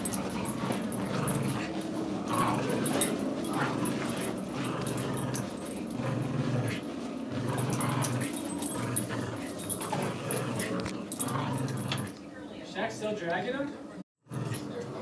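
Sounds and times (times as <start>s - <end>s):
dogs growling: 0.0s - 12.5s, 14.2s - 15.0s.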